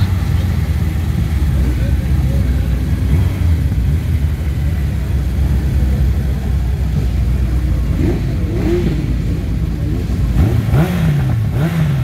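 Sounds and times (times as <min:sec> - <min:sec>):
motorcycle engine idling: 0:00.0 - 0:11.7.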